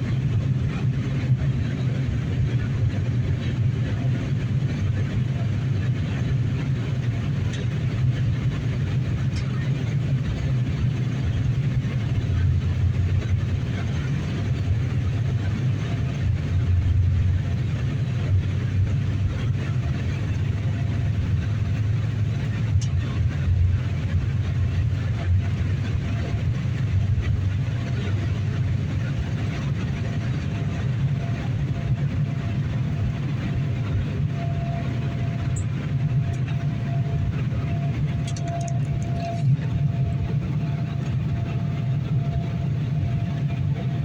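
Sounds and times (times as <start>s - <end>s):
jet engine cabin rumble: 0.0s - 44.0s.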